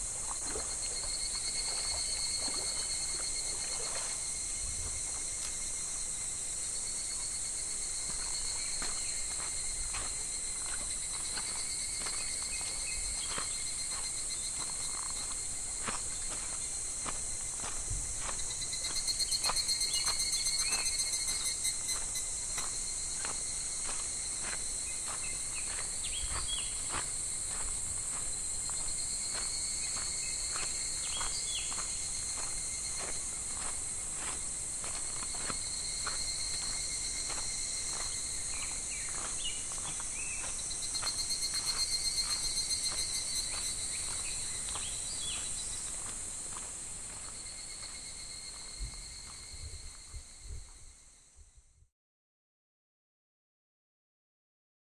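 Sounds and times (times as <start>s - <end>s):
cicadas droning: 0.0s - 51.8s.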